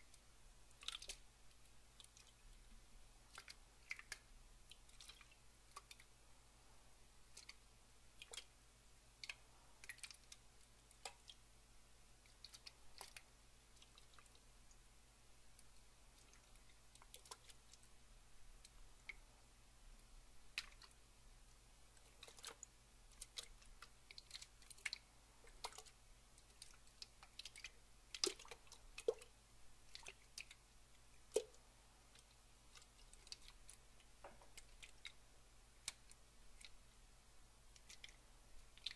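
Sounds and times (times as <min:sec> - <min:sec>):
water dripping: 0:00.0 - 0:06.3, 0:07.1 - 0:38.9.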